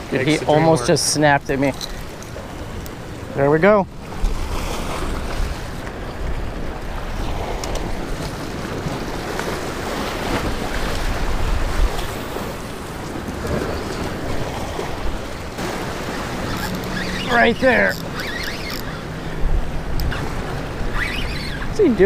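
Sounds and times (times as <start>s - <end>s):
surf washing against rocks: 0.0s - 22.0s
wind buffeting microphone: 4.1s - 22.0s.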